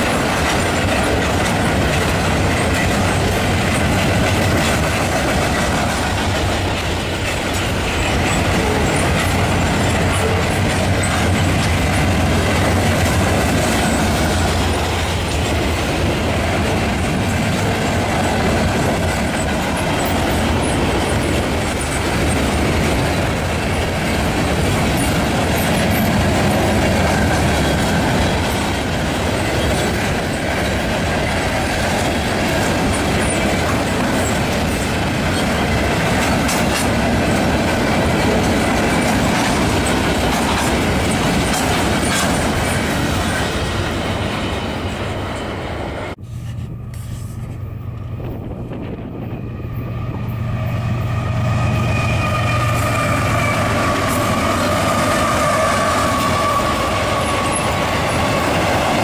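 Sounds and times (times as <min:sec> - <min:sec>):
freight train rolling past: 0:00.0 - 0:59.0
steel wheels clattering on rails: 0:00.0 - 0:59.0.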